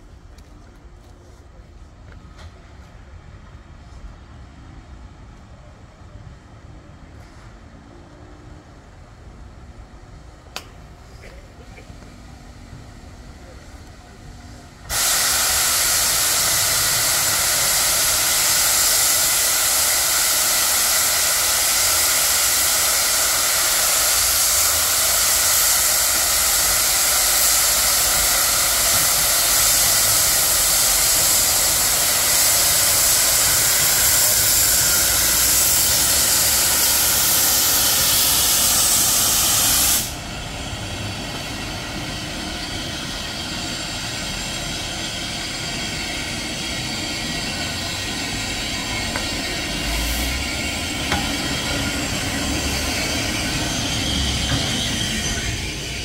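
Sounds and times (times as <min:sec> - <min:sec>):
steam locomotive blowing off steam: 0:10.2 - 0:56.0.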